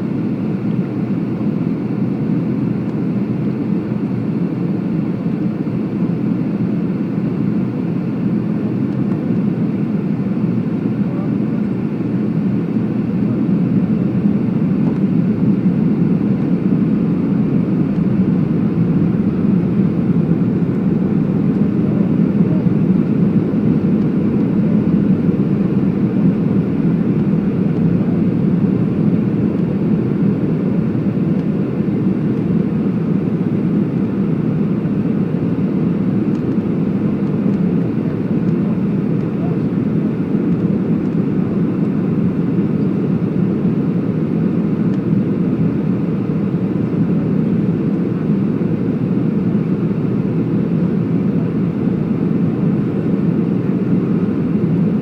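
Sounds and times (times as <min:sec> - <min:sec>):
jet engine cabin roar: 0:00.0 - 0:55.0.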